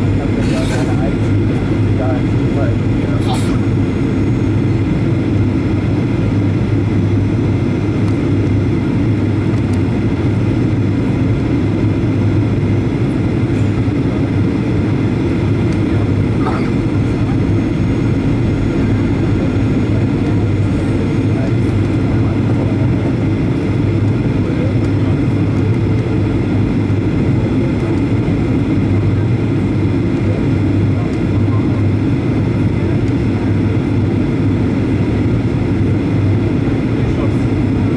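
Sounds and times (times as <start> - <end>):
airplane cabin engine drone: 0.0 - 37.9.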